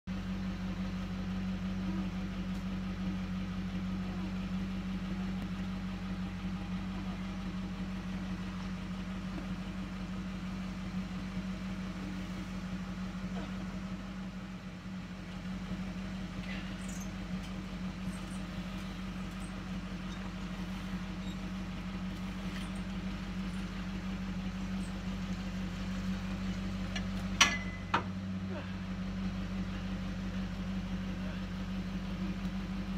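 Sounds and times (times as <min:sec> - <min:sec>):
truck engine idling: 0:00.1 - 0:32.9.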